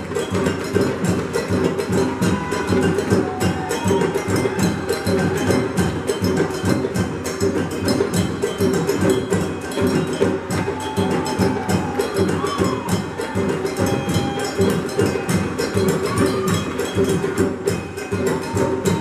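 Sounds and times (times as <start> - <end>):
hand drums playing fast rhythm: 0.0 - 19.0.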